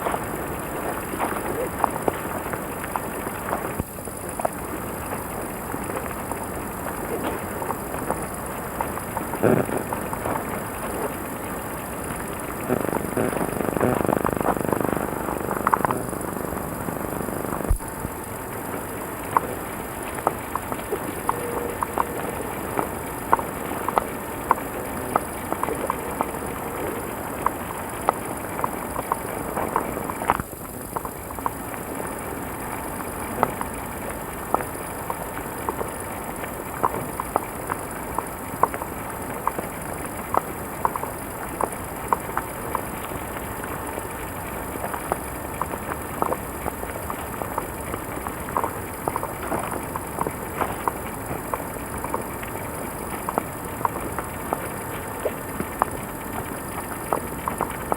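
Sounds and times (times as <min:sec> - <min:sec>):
microphone hiss and hum: 0:00.0 - 0:57.9.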